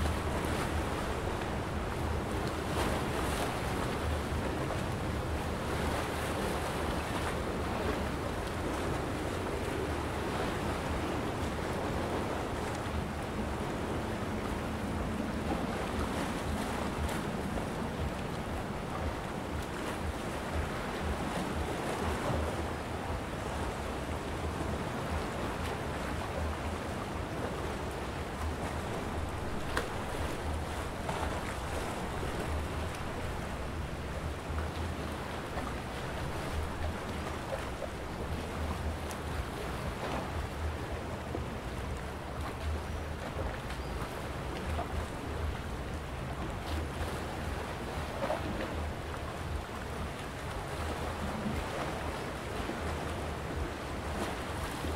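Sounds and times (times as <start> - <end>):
wind rumble on microphone: 0.0 - 54.9.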